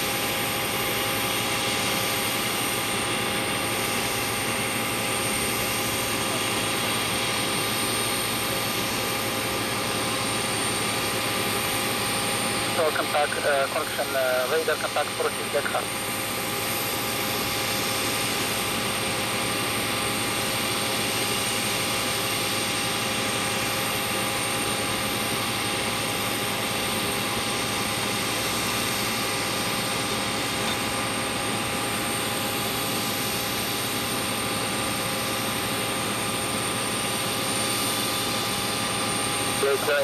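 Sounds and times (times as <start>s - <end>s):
auxiliary power unit hiss and whine: 0.0s - 40.0s.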